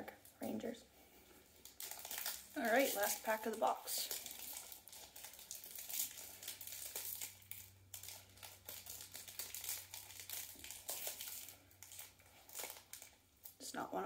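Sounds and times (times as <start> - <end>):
card pack wrapper crinkling: 1.6 - 13.6.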